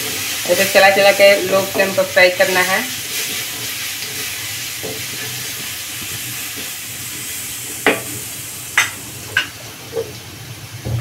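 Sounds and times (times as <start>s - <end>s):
paste sizzling in oil: 0.0s - 10.5s.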